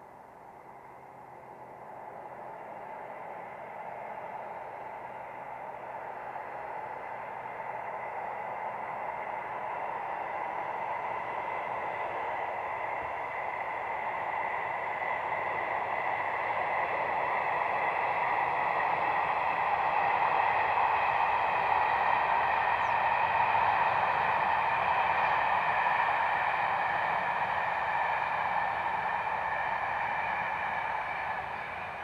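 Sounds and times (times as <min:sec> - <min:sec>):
train rushing with faint whine: 0:00.0 - 0:32.0.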